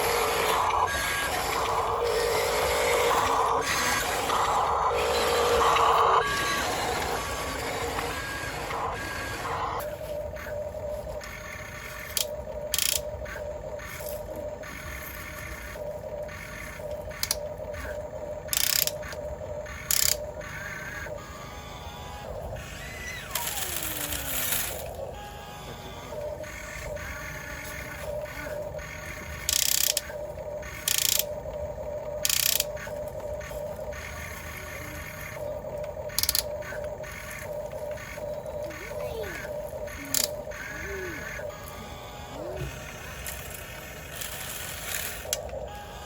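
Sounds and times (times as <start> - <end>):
toy gear motors whirring: 0.0 - 46.0.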